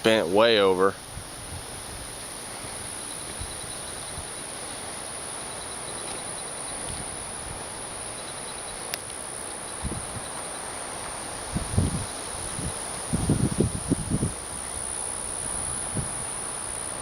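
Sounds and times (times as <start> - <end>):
insects chirping: 0.0 - 17.0
wind rushing through trees: 0.0 - 17.0.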